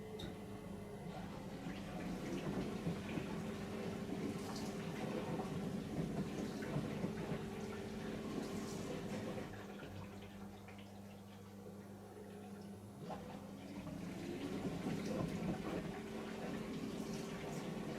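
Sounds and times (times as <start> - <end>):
dishwasher pump hum: 0.0 - 17.9
water swishing in dishwasher: 1.0 - 17.9.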